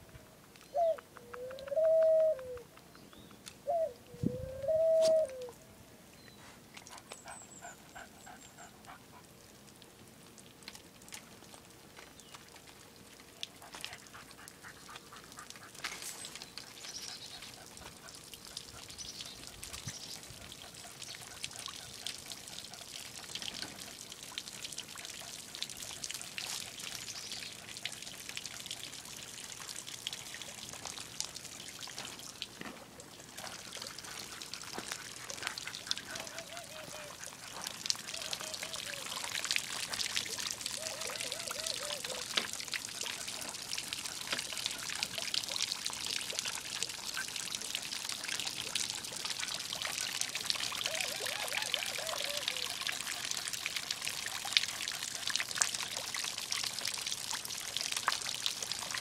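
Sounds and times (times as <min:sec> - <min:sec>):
water trickling and pouring: 0:06.2 - 0:59.0.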